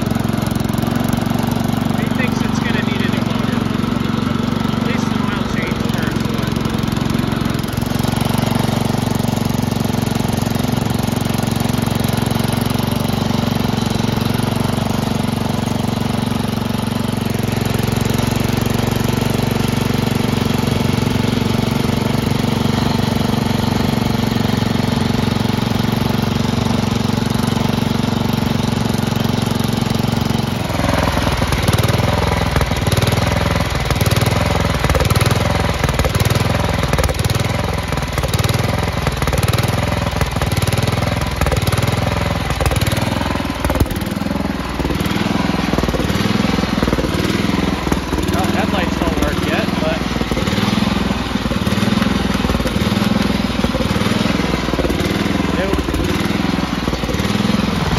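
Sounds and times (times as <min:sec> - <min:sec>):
garden tractor engine running: 0:00.0 - 0:57.9.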